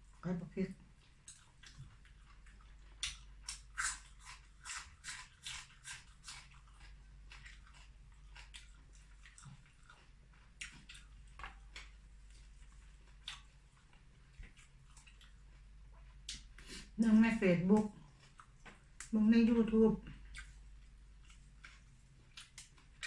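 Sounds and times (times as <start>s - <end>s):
person chewing crisp food: 0.9s - 17.0s, 17.8s - 19.1s, 20.0s - 23.0s.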